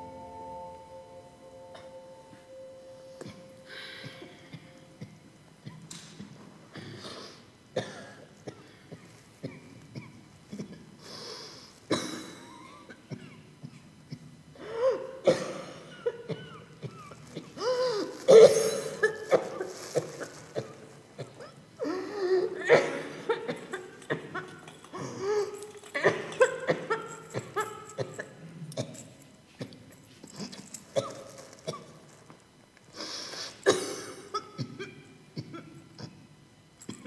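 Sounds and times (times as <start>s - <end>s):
people coughing and wheezing: 3.2s - 32.1s, 33.3s - 37.0s.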